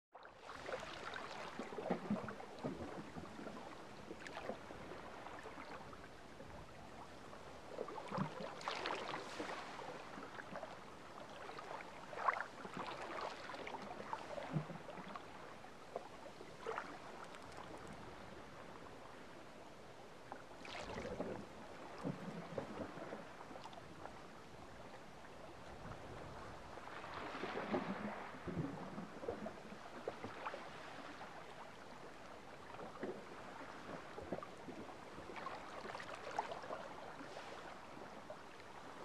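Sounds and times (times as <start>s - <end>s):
small waves lapping against rock: 0.2s - 39.0s.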